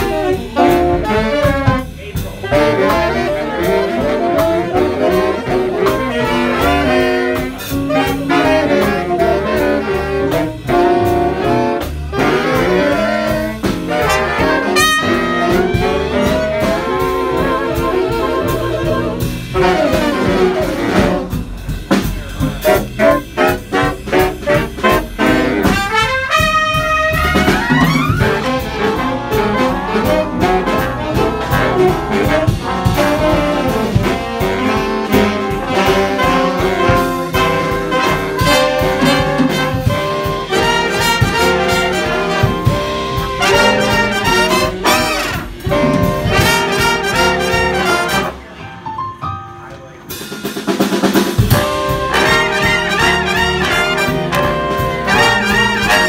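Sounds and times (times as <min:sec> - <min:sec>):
jazz big band playing: 0:00.0 - 0:56.0.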